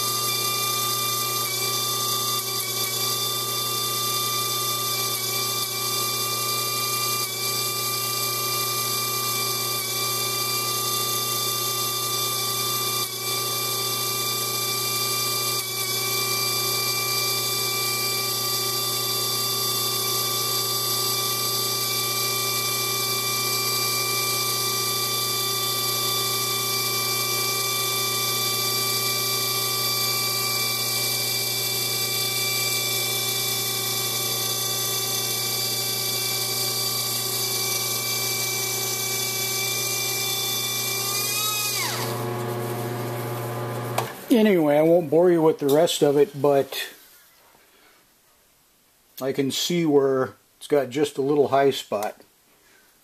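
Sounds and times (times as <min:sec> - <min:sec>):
air grinder whining: 0:00.0 - 0:46.8.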